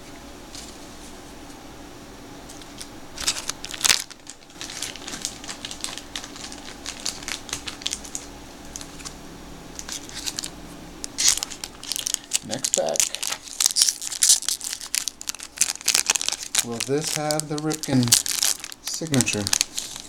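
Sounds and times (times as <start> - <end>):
plastic wrapper crinkling: 2.5 - 9.2, 9.8 - 20.0.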